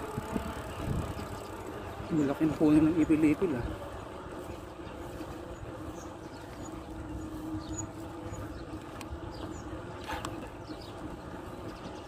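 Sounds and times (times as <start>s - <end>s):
bicycle riding hum: 0.0s - 12.0s
low wind rumble: 0.0s - 12.0s.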